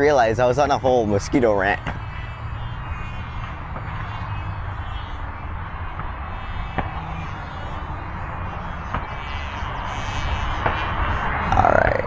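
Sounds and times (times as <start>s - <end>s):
model jet fan noise: 0.0s - 12.0s
wind rumble on microphone: 0.0s - 12.0s.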